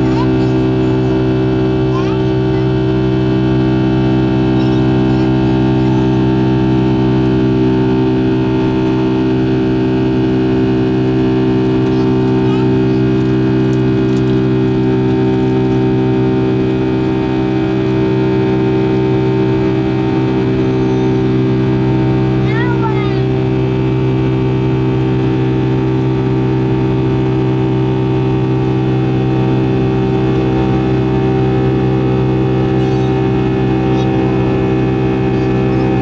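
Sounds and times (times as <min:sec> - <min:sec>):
jet engine drone in cabin: 0:00.0 - 0:36.0.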